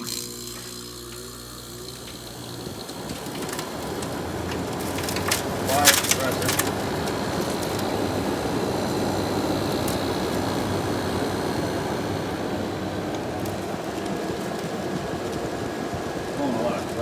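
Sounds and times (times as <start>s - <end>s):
air conditioner fan blowing: 0.0s - 17.0s
compressor humming: 0.0s - 17.0s.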